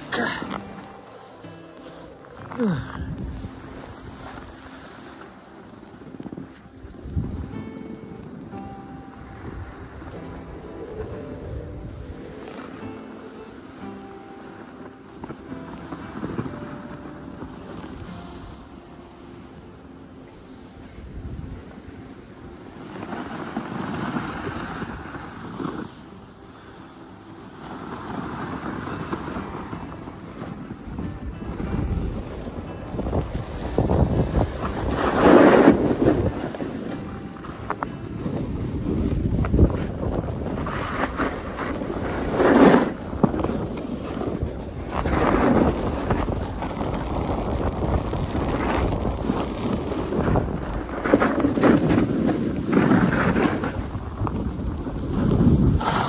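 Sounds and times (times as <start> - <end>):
ski edges scraping snow: 0.0 - 19.6, 21.6 - 56.0
wind on microphone: 0.0 - 56.0.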